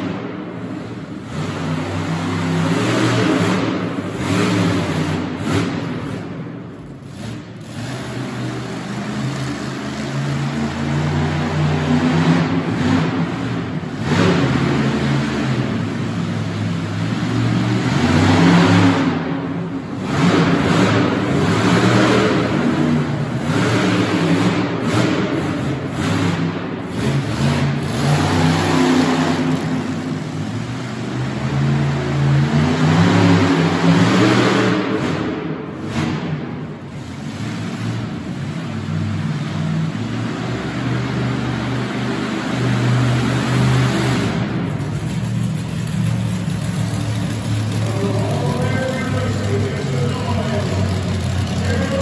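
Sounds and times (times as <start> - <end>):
monster truck engine revving: 0.0 - 52.0.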